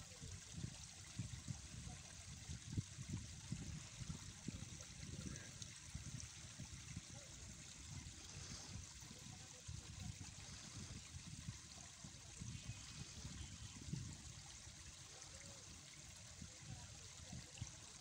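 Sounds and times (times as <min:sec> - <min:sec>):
water lapping against rocks: 0:03.2 - 0:18.0.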